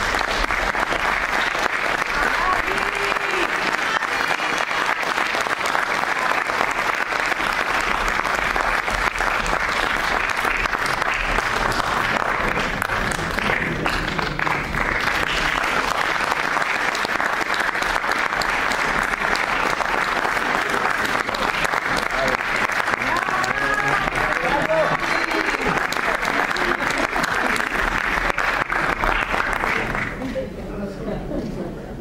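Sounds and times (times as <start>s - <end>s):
audience applauding: 0.0s - 30.3s.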